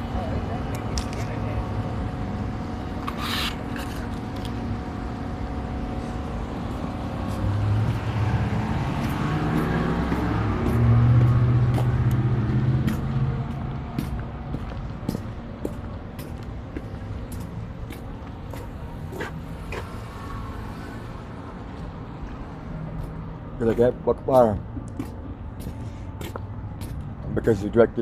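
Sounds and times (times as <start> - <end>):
vehicle engine hum: 0.0 - 28.0.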